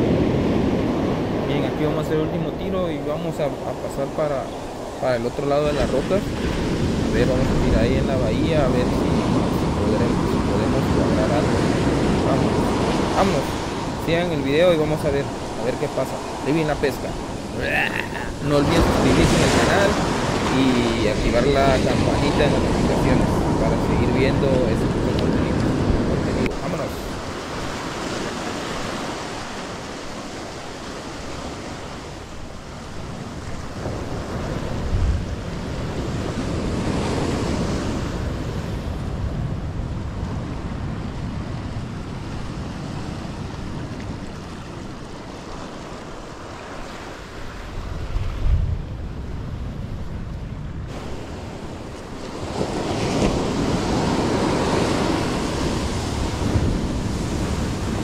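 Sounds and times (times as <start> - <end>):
wind rumbling on microphone: 0.0 - 3.6, 4.4 - 58.0
ocean surf breaking: 0.0 - 58.0.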